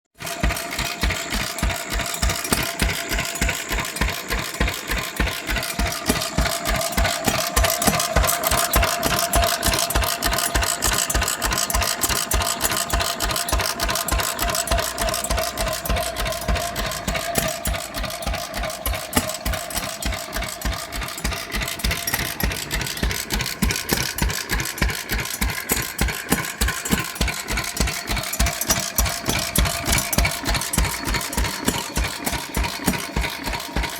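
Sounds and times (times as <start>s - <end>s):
engine running with whine: 0.2s - 33.9s.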